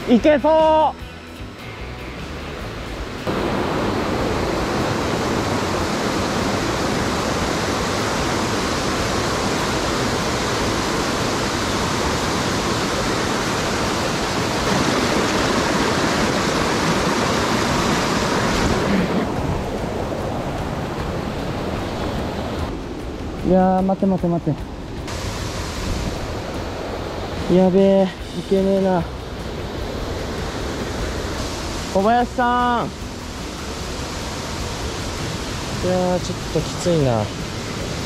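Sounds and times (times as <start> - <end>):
waterfall rushing: 2.4 - 38.0.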